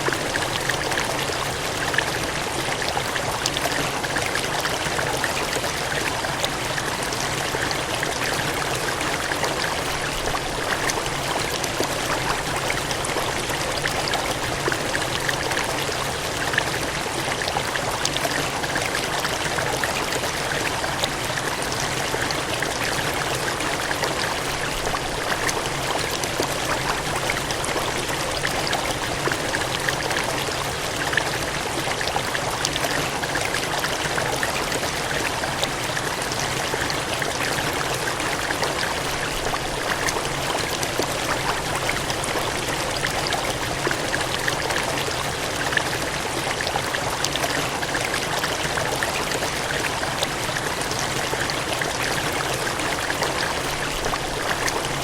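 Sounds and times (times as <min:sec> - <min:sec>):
cascading water rushing: 0:00.0 - 0:55.0.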